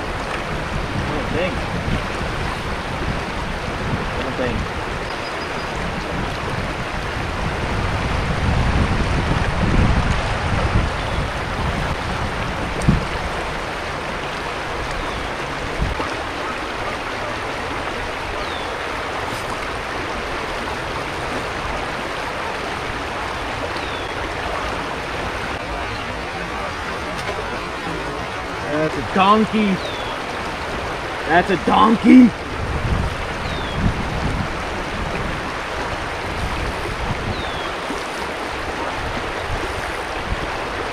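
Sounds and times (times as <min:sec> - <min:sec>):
river rushing over riffle: 0:00.0 - 0:40.9
wind buffeting microphone: 0:00.0 - 0:40.9.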